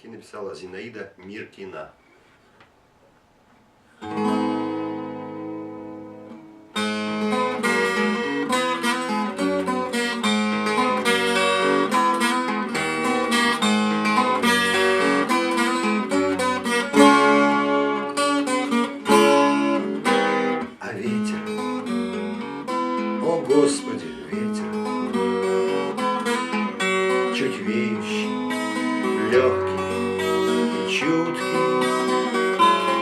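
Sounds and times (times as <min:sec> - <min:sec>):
acoustic guitar: 0:02.0 - 0:33.0.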